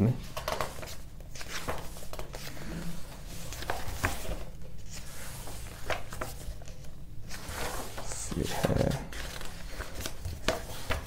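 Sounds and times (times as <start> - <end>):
book pages rustling: 0.3 - 11.0.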